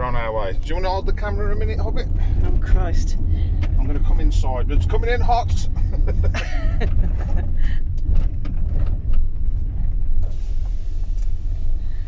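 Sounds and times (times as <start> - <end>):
van engine and road rumble: 0.0 - 12.0.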